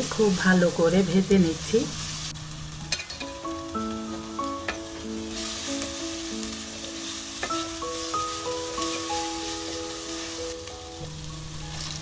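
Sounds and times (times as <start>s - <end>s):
onions sizzling in oil: 0.0s - 12.0s
soft background music: 0.0s - 12.0s.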